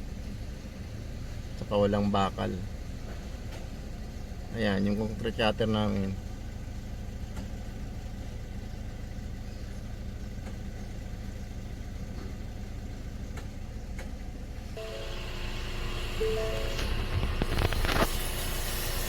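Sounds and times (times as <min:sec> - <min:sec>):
petrol engine idling: 0:00.0 - 0:19.0.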